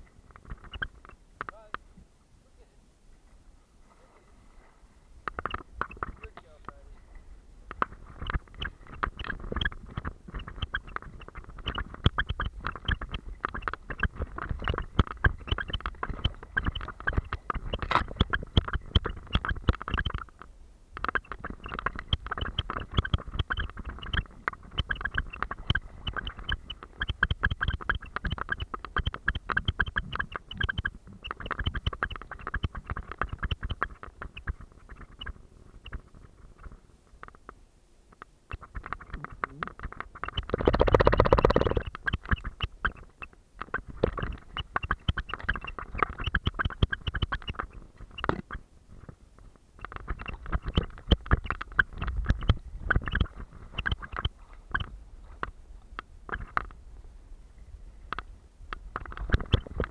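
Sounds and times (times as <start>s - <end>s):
muffled water splashing: 3.0s - 37.5s, 38.2s - 59.9s.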